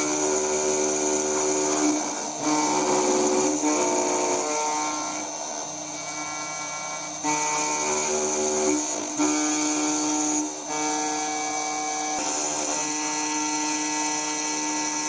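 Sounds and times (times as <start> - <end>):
milling spindle whine: 0.0 - 15.0.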